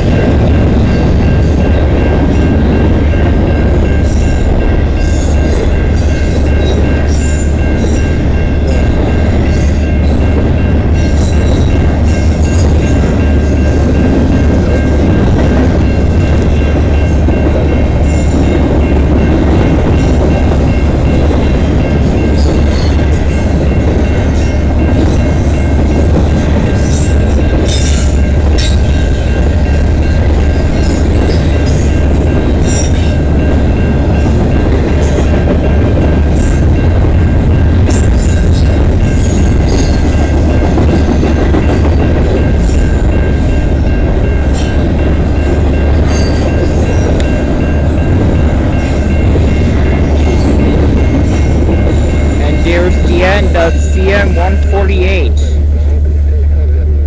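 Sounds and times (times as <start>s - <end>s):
crossing bell ringing: 0.0s - 56.4s
train wheels rumbling on rails: 0.0s - 57.0s.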